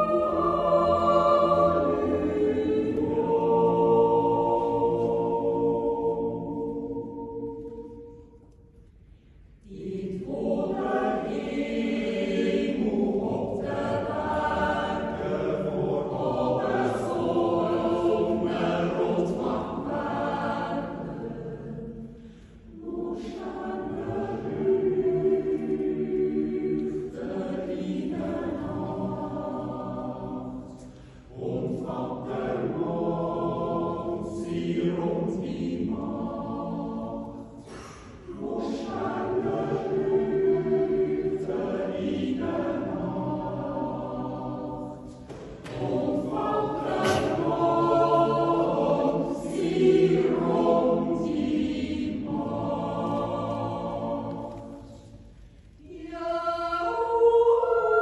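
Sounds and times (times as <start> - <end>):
choir yodeling a cappella: 0.0 - 58.0.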